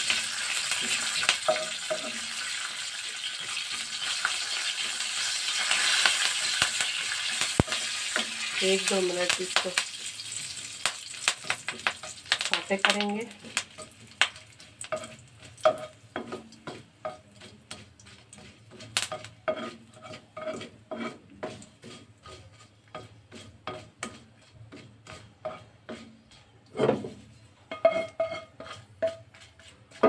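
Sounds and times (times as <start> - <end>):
spatula scraping a wok: 0.0 - 30.0.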